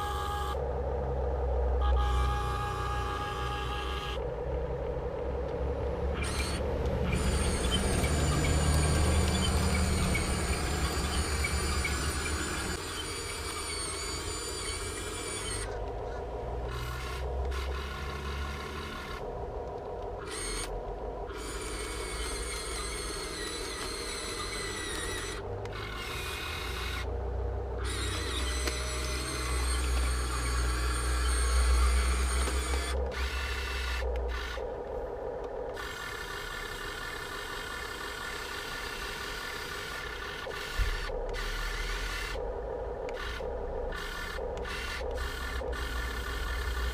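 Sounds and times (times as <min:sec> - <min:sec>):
electric motors whining: 0:00.0 - 0:46.9.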